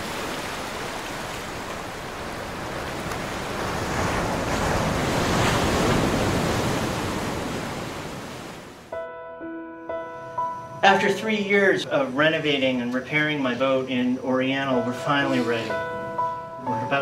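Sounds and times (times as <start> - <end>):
ocean waves washing: 0.0 - 8.9, 10.8 - 17.0.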